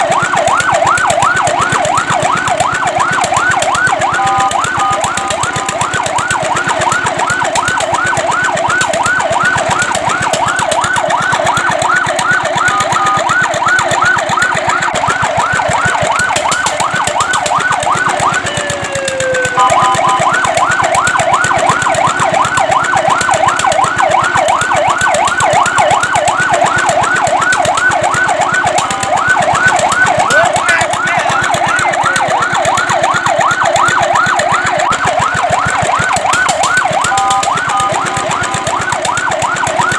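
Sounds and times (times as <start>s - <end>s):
siren yelping: 0.0s - 39.9s.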